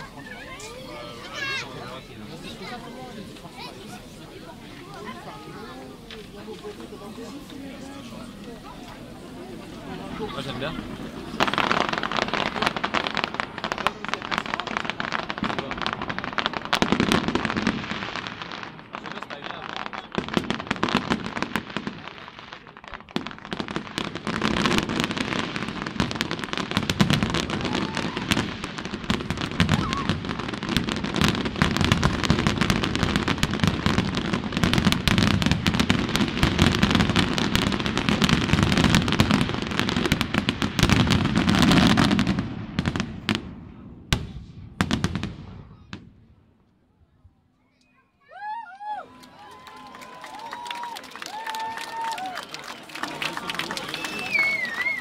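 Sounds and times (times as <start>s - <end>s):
fireworks bangs and crackle: 0.0s - 46.6s, 49.5s - 55.0s.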